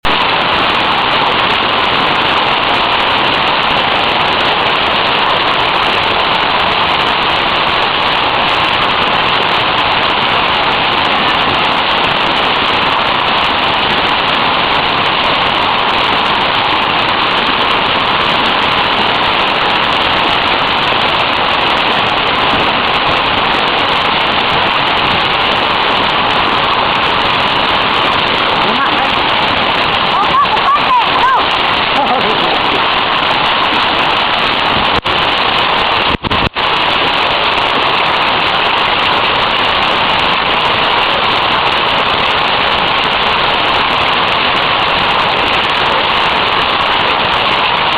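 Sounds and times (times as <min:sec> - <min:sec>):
hail and heavy rain falling: 0:00.0 - 0:47.9.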